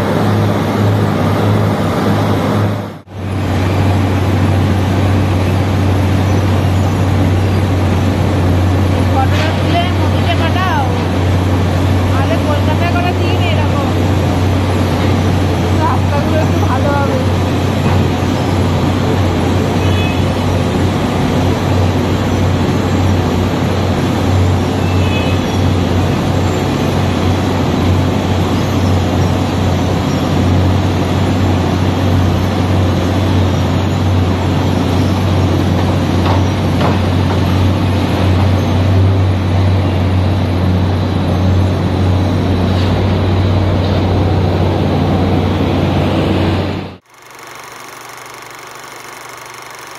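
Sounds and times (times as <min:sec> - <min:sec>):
diesel engine drone: 0:00.0 - 0:49.9.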